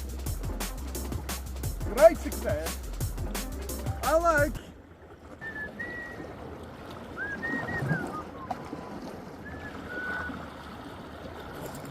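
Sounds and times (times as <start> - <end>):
sea water lapping: 0.0 - 11.9.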